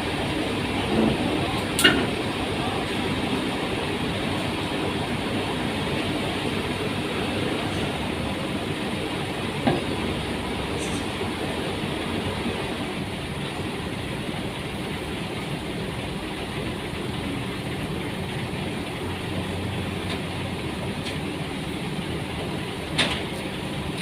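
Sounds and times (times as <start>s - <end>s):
excavator engine running: 0.0s - 24.0s.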